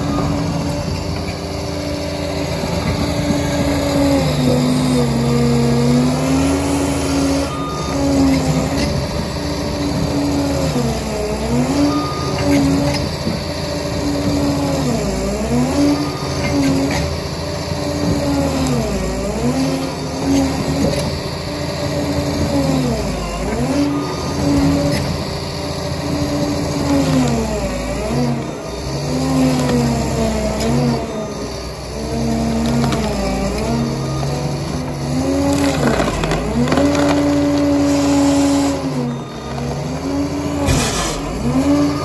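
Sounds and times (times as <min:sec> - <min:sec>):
crawler dozer whining and rumbling: 0:00.0 - 0:42.0.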